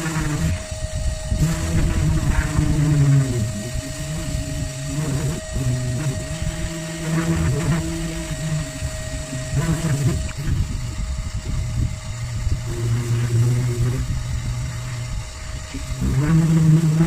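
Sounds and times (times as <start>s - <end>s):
electric grinder sanding: 0.0s - 17.0s
steady higher hum: 0.0s - 17.0s.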